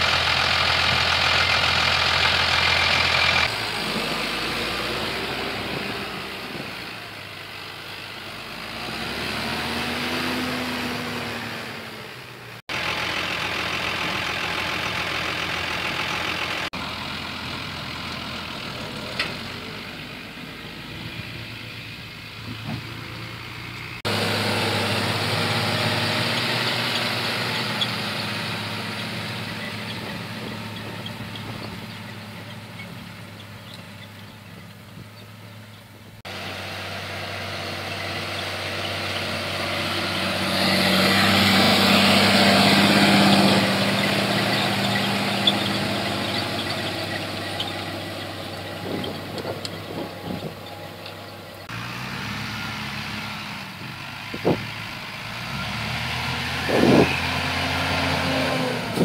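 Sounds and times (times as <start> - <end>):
tractor diesel engine passing: 0.0 - 59.0.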